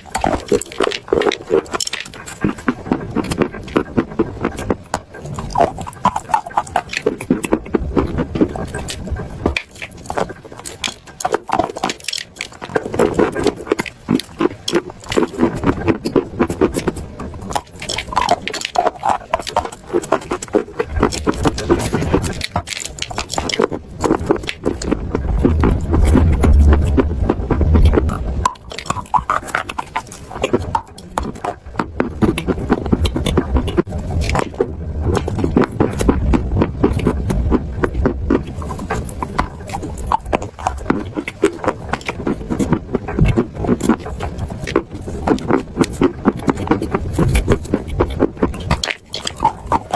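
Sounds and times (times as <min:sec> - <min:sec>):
chalk crunching while chewed: 0:00.0 - 0:49.9.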